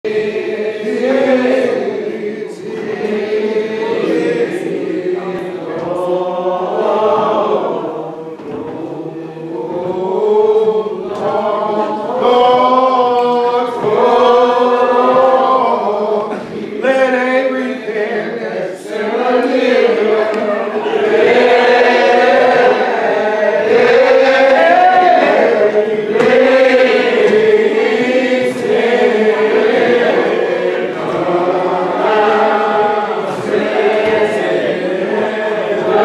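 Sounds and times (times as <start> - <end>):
voices singing a hymn a cappella: 0.0 - 36.0.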